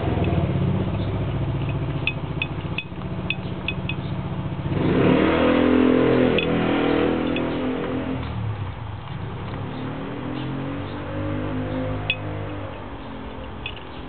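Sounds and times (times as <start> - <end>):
vehicle engine running and revving: 0.0 - 14.0.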